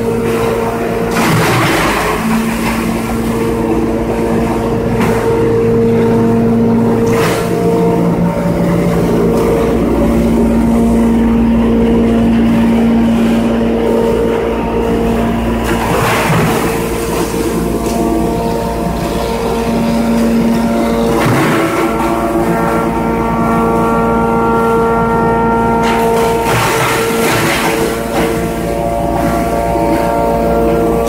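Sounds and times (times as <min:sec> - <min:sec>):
hammer mill machine drone: 0:00.0 - 0:31.0.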